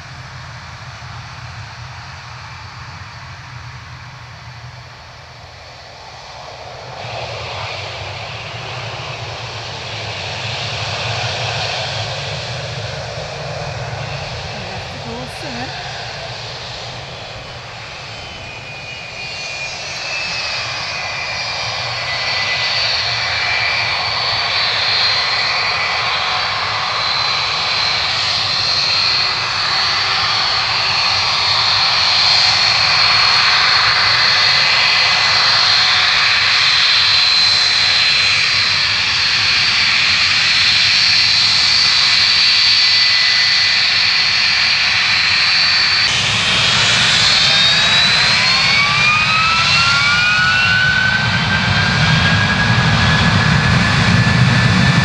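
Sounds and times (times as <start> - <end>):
jet engines whining at taxi power: 0.0 - 55.0.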